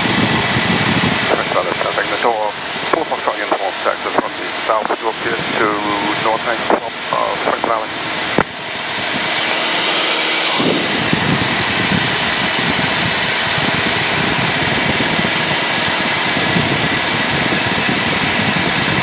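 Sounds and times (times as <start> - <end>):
aircraft engine drone through headset: 0.0 - 19.0.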